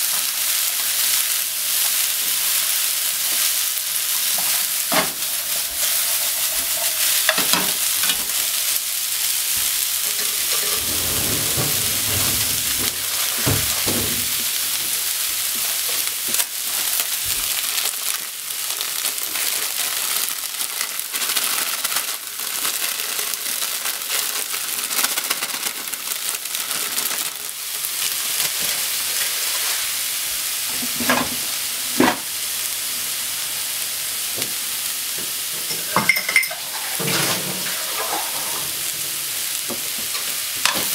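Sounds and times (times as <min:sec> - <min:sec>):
cabbage sizzling in frying pan: 0:00.0 - 0:40.9.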